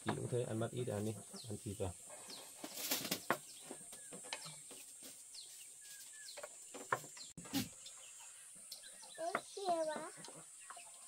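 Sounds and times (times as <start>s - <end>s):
bird chirps: 0.8s - 11.0s.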